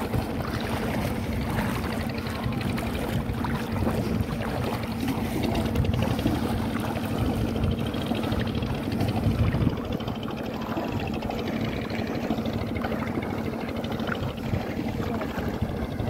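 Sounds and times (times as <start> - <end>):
feet splashing through water: 0.0 - 16.0
low drone: 0.0 - 16.0
wind buffeting microphone: 0.0 - 16.0.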